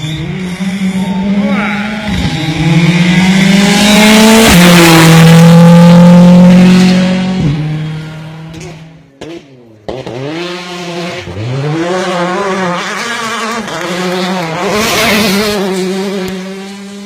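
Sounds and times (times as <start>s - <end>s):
rally car accelerating: 0.0s - 17.0s.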